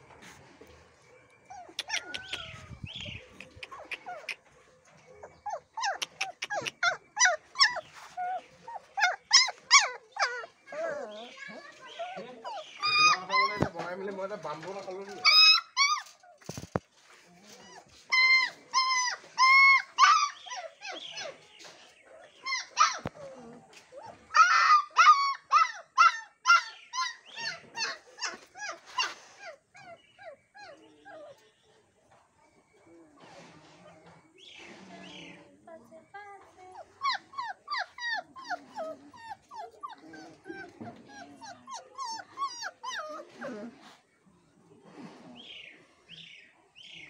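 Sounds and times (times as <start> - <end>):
puppies whining: 0.0 - 31.9, 36.4 - 44.1.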